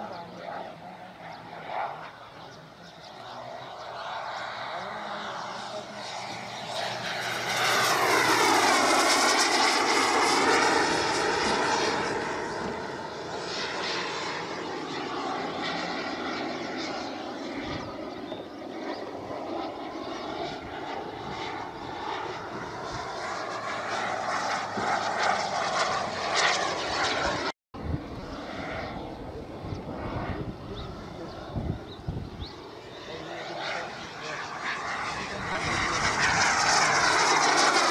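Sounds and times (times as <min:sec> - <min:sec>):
model jet engine whine: 0:00.0 - 0:37.9.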